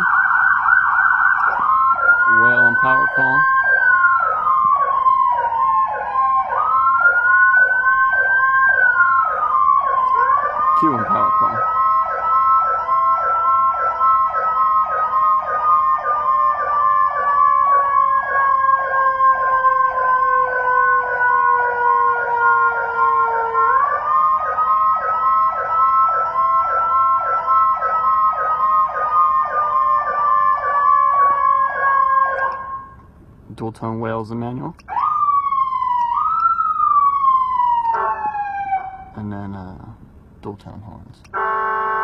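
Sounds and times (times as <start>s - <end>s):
electronic siren yelp and wail: 0.0s - 33.0s, 34.8s - 39.2s, 41.3s - 42.0s.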